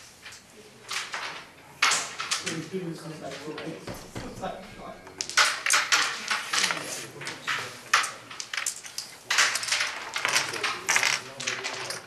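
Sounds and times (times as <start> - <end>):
carrom men clicking and scraping: 0.0 - 12.0.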